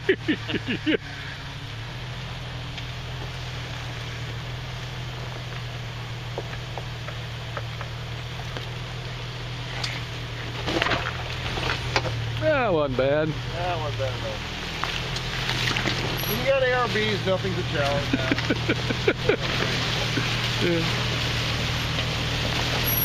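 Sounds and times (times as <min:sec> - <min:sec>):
engine low hum: 0:00.0 - 0:23.0.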